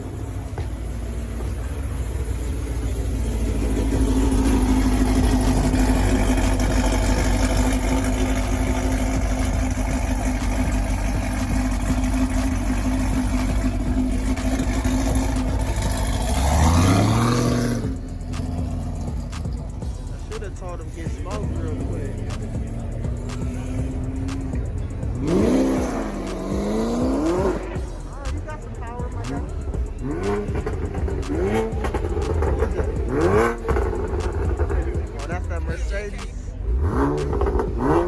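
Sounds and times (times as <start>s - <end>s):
car engine running and revving: 0.0s - 38.0s.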